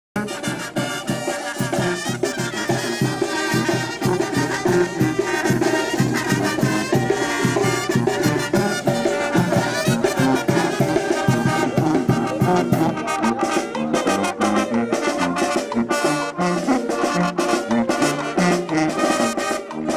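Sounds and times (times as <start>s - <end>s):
brass band playing: 0.2s - 19.9s.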